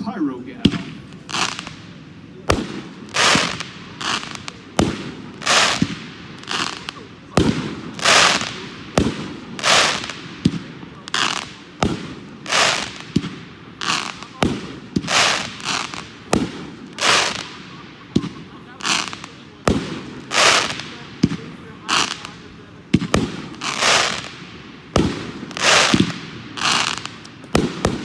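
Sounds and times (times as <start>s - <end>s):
firework crackling bursts: 0.0s - 28.0s.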